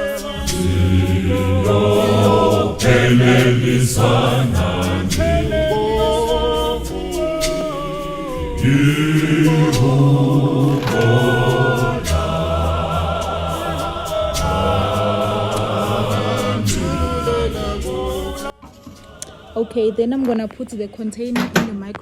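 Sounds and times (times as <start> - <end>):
choral singing: 0.0 - 21.2.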